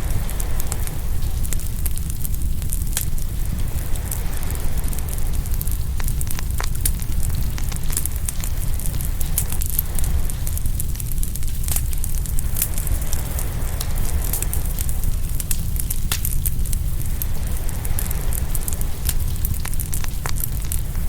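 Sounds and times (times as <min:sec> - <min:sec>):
sharp pops of fire: 0:00.0 - 0:21.0
steady low rumble: 0:00.0 - 0:21.0
wood fire crackling: 0:00.0 - 0:21.0.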